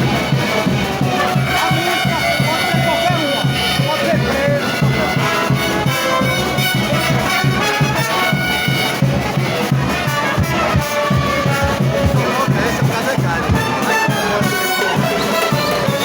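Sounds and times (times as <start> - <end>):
brass band playing: 0.0 - 16.0
steady drum beat: 0.0 - 16.0.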